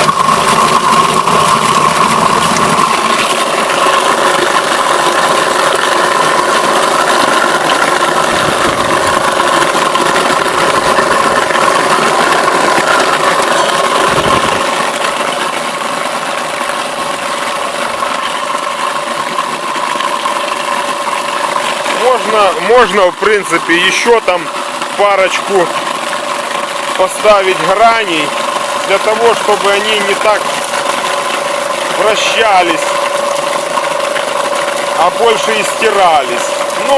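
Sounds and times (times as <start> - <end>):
apple crusher motor grinding: 0.0 - 36.9.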